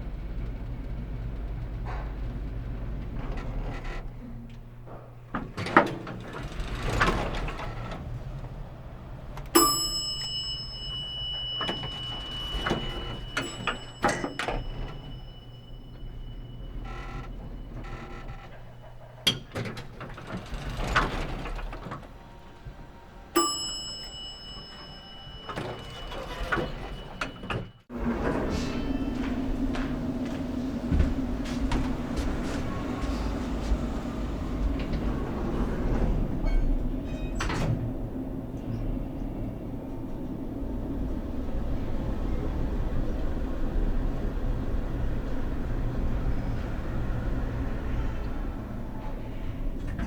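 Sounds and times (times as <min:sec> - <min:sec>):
doors sliding: 0:00.0 - 0:50.0
elevator clunks: 0:00.0 - 0:50.0
elevator low hum: 0:00.0 - 0:50.0
elevator arrival chime: 0:05.6 - 0:50.0.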